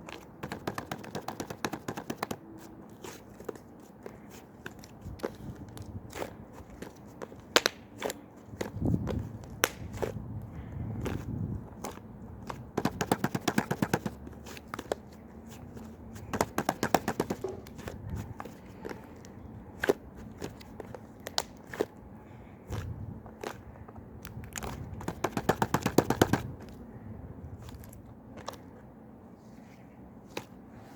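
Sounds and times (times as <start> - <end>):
slime squishing: 0.0 - 26.6.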